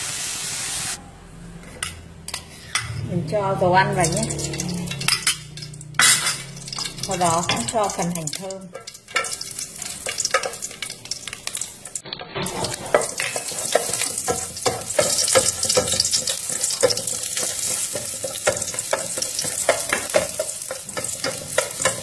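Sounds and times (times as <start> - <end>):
shallots sizzling in oil: 3.9 - 22.0.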